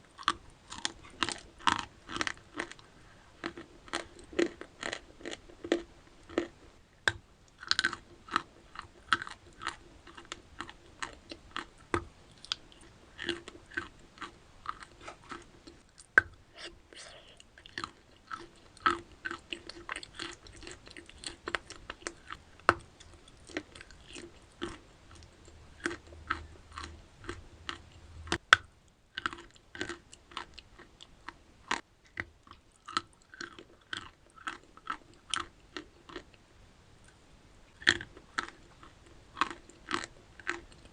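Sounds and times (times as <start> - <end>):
chalk being chewed crunchily: 0.2 - 6.6, 7.6 - 28.4, 29.2 - 36.4, 37.8 - 40.9.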